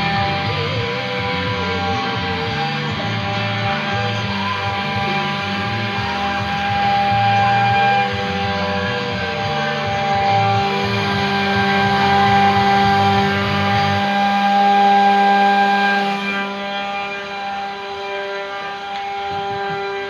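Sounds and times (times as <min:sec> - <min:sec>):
guitar: 0:00.0 - 0:20.0
steady held tones: 0:00.0 - 0:20.0
stepping bass line: 0:00.0 - 0:20.0.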